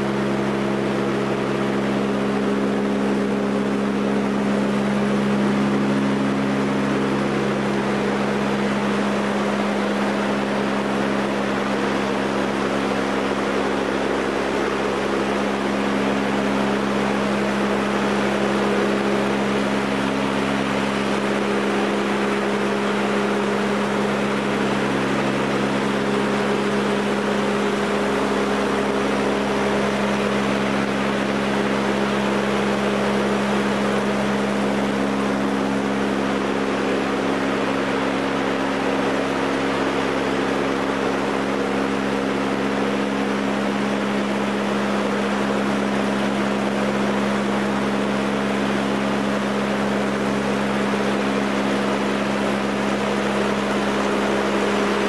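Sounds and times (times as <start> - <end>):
low propeller hum: 0.0 - 55.0.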